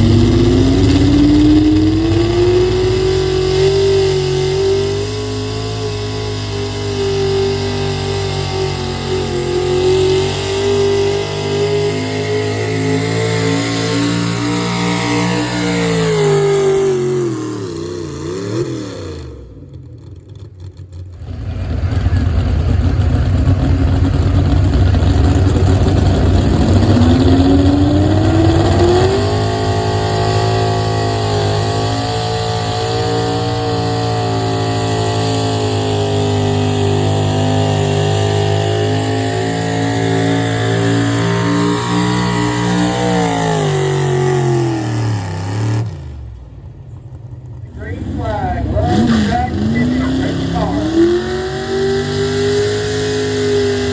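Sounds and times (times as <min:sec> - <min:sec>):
engine revving under hard load: 0:00.0 - 0:53.9.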